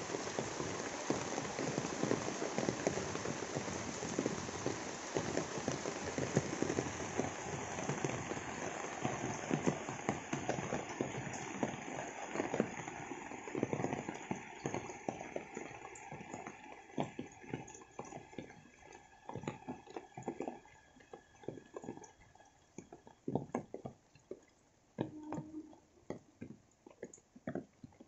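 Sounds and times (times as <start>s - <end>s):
faint rainfall: 0.0s - 28.0s
rain dripping off leaves: 0.0s - 28.0s.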